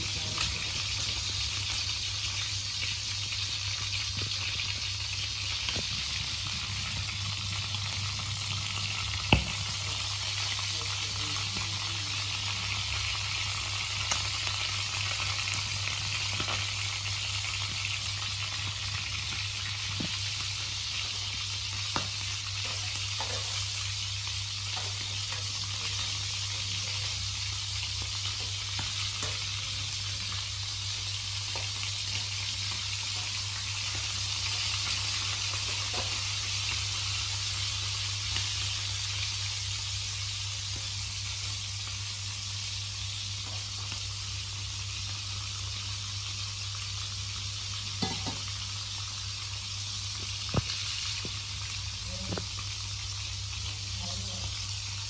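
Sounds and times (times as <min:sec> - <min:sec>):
frogs sizzling in oil: 0:00.0 - 0:55.0.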